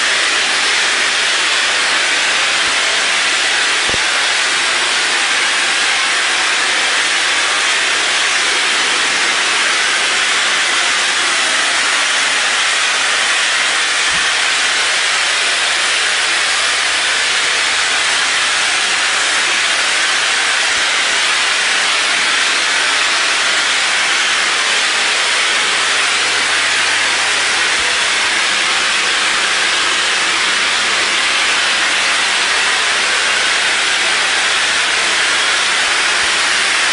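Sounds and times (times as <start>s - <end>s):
spray gun hissing: 0.0s - 36.9s.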